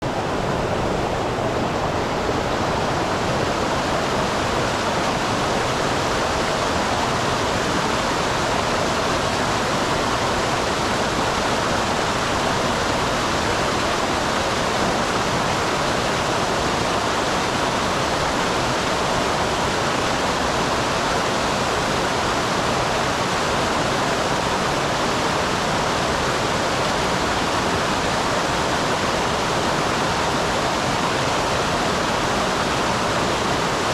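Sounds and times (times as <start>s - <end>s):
waterfall pouring and splashing: 0.0s - 33.9s.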